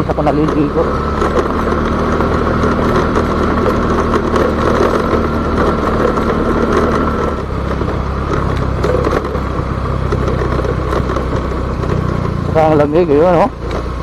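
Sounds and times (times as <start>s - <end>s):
motorcycle engine running: 0.0s - 14.0s
stones clicking under tyres: 0.0s - 14.0s.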